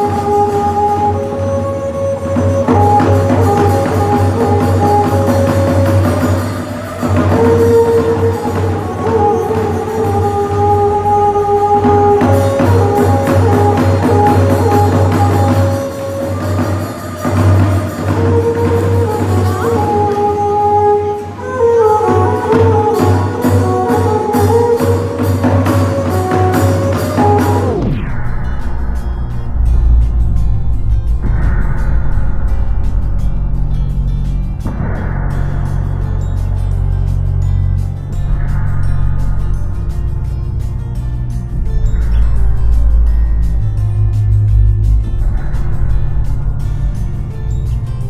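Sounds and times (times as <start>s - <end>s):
cymbal strokes: 0.0s - 48.0s
drum strokes: 0.0s - 48.0s
wavering held melody: 0.0s - 48.0s.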